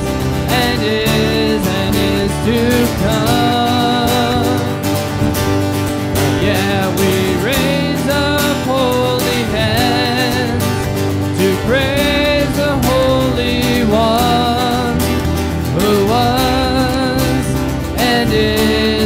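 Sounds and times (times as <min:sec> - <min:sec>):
man singing worship song: 0:00.0 - 0:05.0, 0:06.2 - 0:19.0
strummed acoustic guitar: 0:00.0 - 0:19.0.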